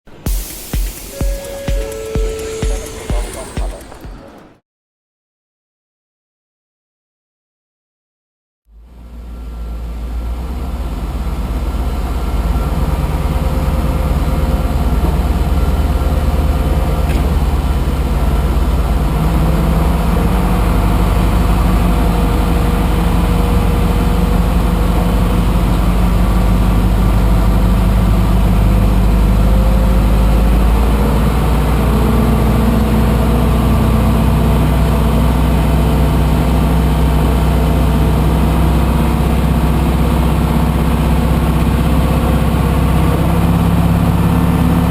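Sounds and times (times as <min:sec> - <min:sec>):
tug engine running under load: 0:01.0 - 0:04.6, 0:08.8 - 0:44.9.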